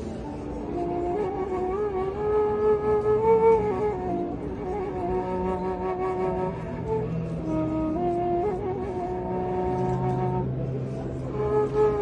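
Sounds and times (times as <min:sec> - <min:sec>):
end-blown flute melody: 0:00.0 - 0:12.0.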